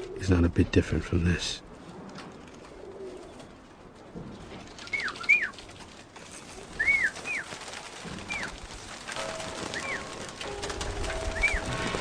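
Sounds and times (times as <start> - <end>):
birds chirping: 0.0 - 8.8, 9.4 - 12.0
soft rustling: 1.7 - 12.0.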